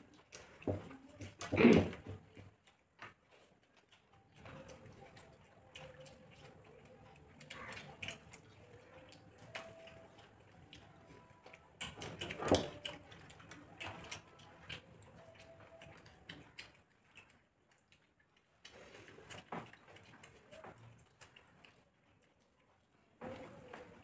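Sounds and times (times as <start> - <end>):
people chewing with mouth smacks: 0.0 - 24.0.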